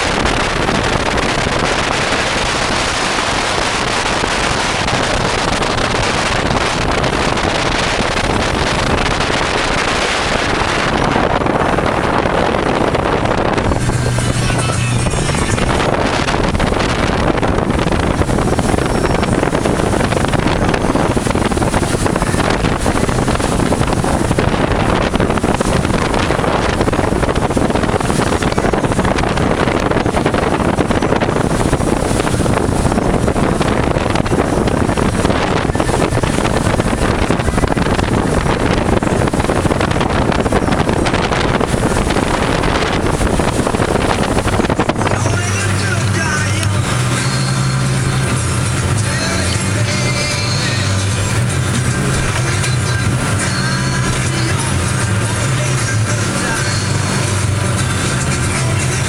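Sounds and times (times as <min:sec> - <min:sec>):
boat engines running: 0:00.0 - 0:59.0
wind noise on microphone: 0:00.0 - 0:59.0.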